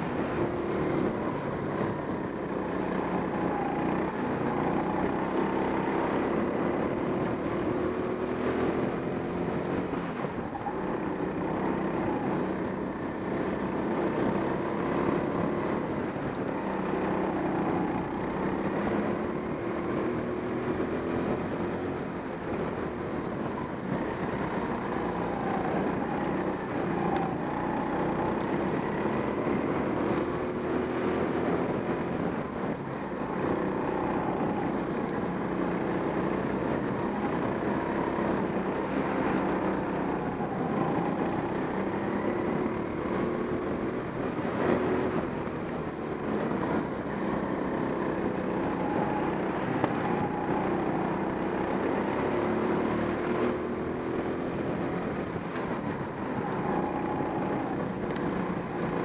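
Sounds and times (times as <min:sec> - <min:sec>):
go-kart motor running: 0:00.0 - 0:59.0.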